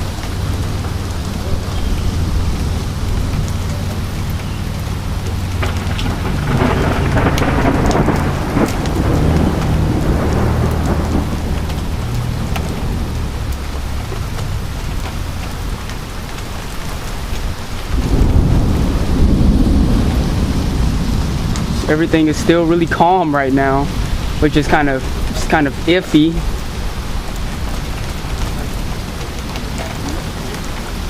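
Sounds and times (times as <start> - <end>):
rolling thunder: 0.0 - 31.0
steady rain: 0.0 - 31.0.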